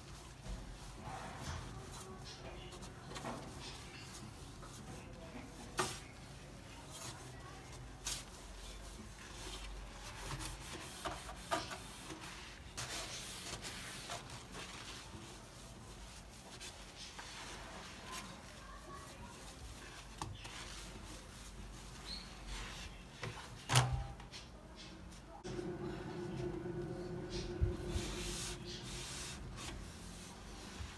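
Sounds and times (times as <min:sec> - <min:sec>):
rubbing and scrubbing: 0:00.0 - 0:23.6, 0:25.4 - 0:30.9.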